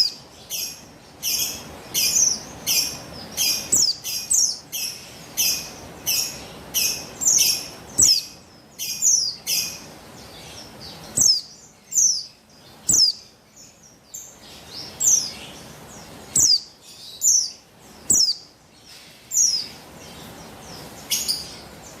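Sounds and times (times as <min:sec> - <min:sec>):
bird high downward chirps: 0:00.0 - 0:22.0.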